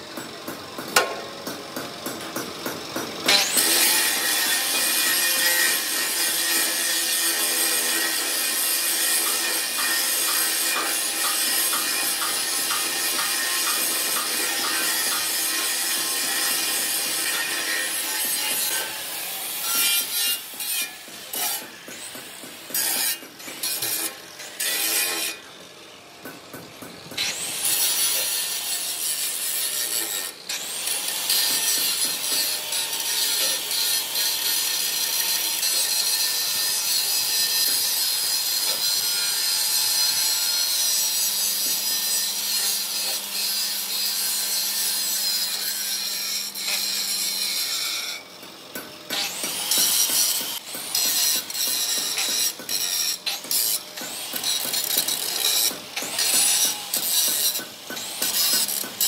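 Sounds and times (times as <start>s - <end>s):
metal rasping and scraping: 3.3s - 25.5s, 27.1s - 59.0s.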